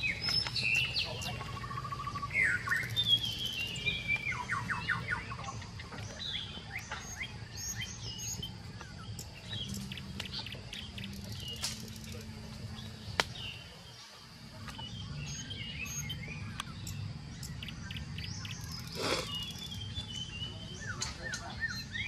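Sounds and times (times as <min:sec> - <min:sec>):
campfire crackles: 0:00.0 - 0:21.4
birds chirping and trilling: 0:00.0 - 0:22.0.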